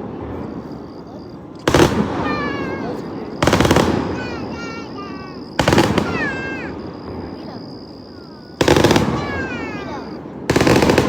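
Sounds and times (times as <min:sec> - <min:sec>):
loud rumbling blasts: 0:00.0 - 0:11.0.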